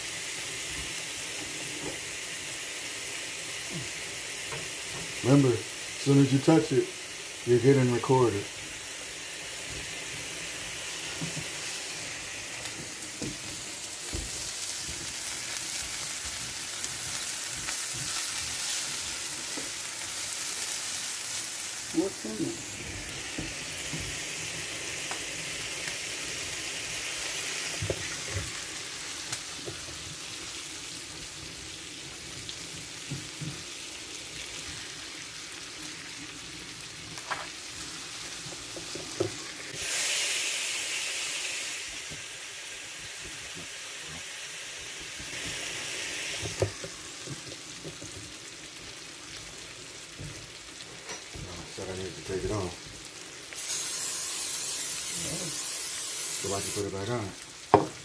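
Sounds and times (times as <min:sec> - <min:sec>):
steak sizzling: 0:00.0 - 0:58.0.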